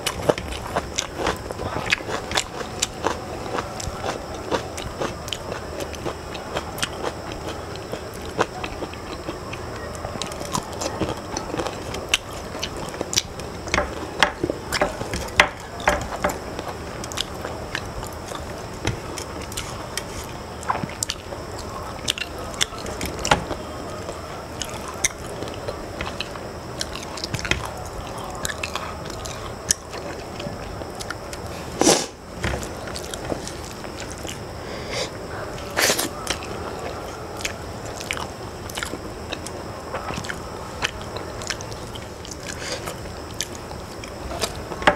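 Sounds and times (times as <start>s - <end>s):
chewing and mouth smacks: 0.0s - 31.4s, 35.6s - 44.7s.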